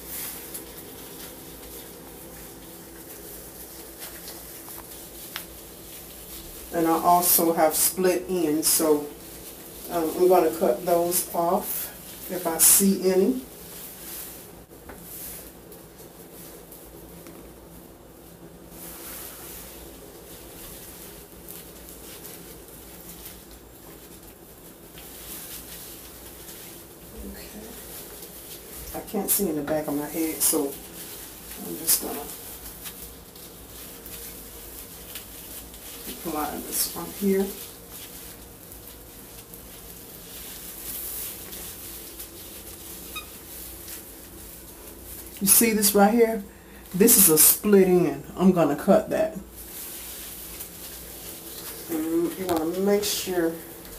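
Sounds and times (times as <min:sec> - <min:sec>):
hand rubbing hair: 0:00.0 - 0:53.9
plastic cape rustling: 0:00.0 - 0:53.9
steady low hum: 0:00.0 - 0:53.9.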